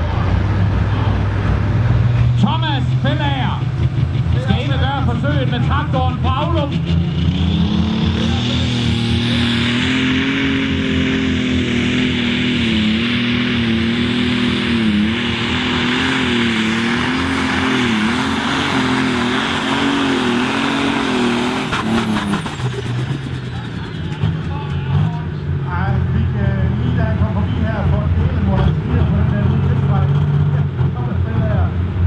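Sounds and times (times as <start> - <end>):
tractor engine at full throttle: 0.0 - 32.0.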